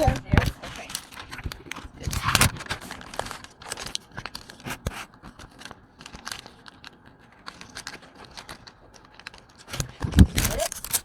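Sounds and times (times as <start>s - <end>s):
packaging tearing and crinkling: 0.0s - 11.0s.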